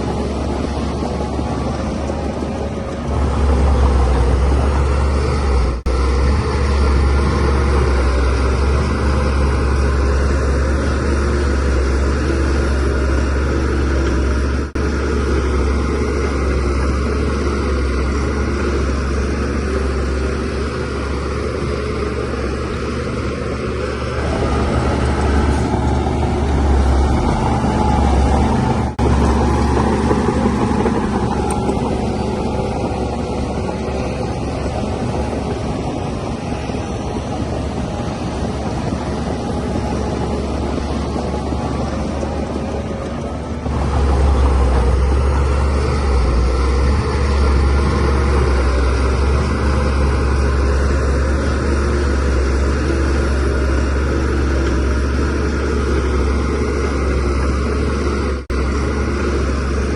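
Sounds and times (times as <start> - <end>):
bulldozer diesel engine drone: 0.0 - 59.9.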